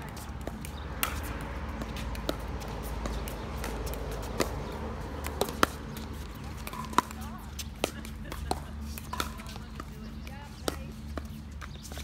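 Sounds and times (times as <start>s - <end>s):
paddles hitting plastic ball: 0.0s - 12.0s.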